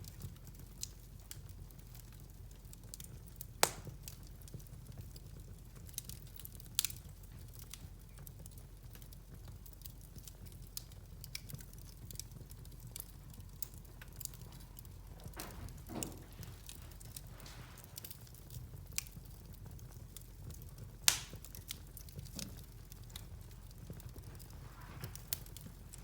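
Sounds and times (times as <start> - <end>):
wood fire crackling: 0.0 - 26.0
sharp pops from fire: 0.1 - 26.0.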